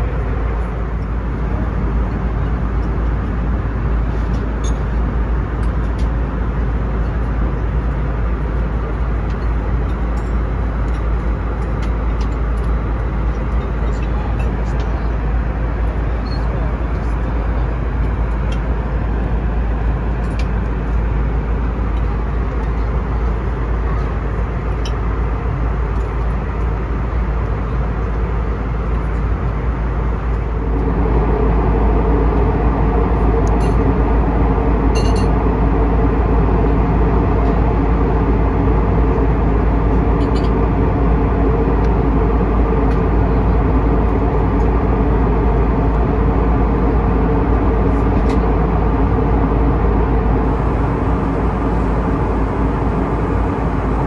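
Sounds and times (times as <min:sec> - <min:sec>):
airplane cabin noise: 0:00.0 - 0:54.0
multi-tone hum: 0:00.0 - 0:54.0.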